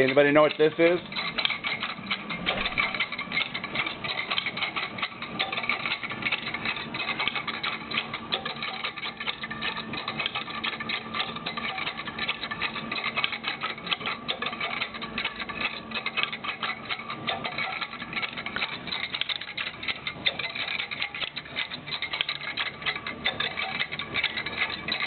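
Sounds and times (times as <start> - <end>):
faint motor hum: 0.0 - 25.0
rapid clicking and scraping: 0.0 - 25.0.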